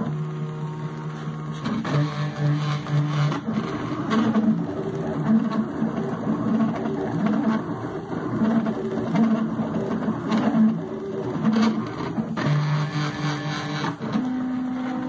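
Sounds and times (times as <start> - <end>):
stepper motors humming: 0.0 - 15.0.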